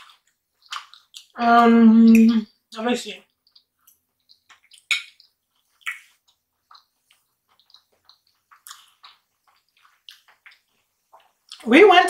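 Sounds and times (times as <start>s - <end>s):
wet chewing with smacks: 0.0s - 1.4s, 2.0s - 11.8s.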